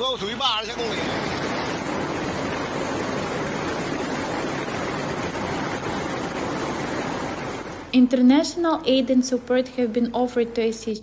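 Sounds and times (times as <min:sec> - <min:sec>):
floodwater rushing: 0:00.0 - 0:09.4.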